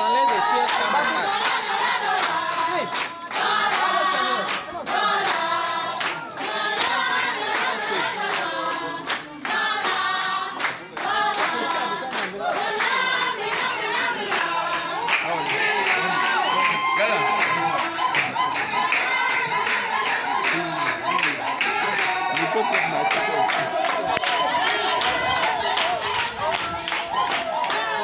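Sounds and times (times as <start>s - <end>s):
group singing unaccompanied: 0.0s - 28.0s
rhythmic hand clapping: 0.0s - 28.0s.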